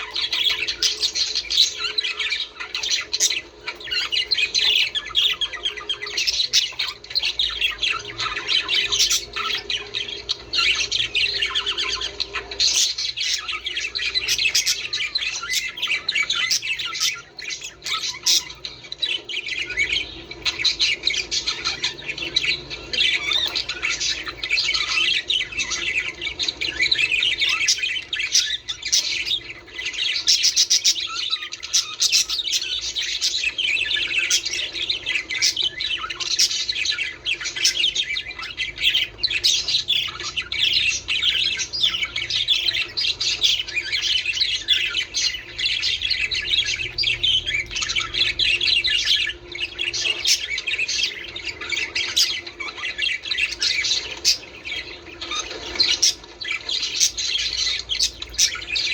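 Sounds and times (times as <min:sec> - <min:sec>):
budgerigars chattering: 0:00.0 - 0:58.9.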